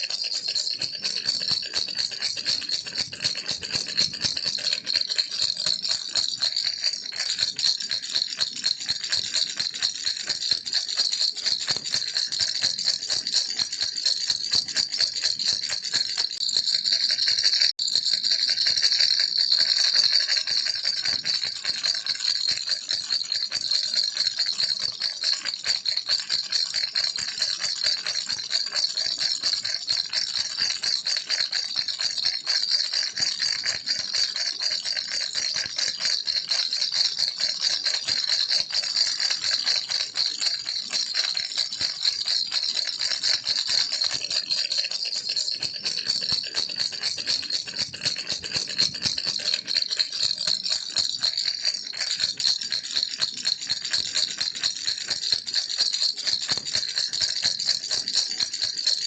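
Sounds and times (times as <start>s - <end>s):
baby rattle shaken fast: 0.0s - 58.8s.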